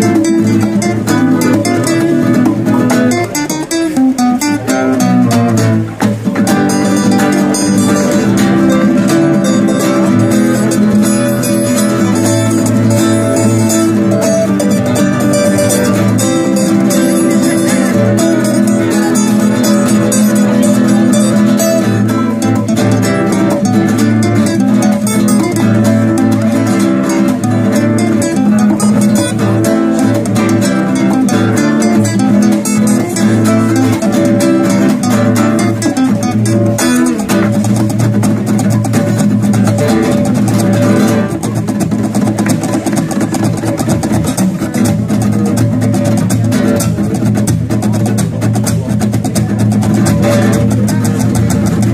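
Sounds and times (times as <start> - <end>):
nylon-string classical guitar: 0.0 - 51.9
steel-string acoustic guitar: 0.0 - 51.9.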